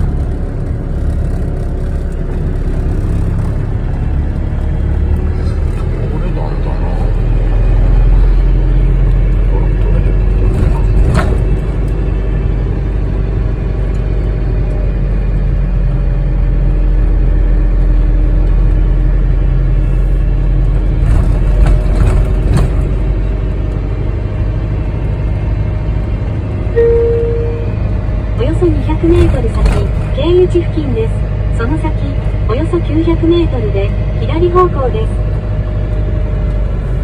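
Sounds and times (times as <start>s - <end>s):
truck engine and tyres rumbling: 0.0s - 37.0s.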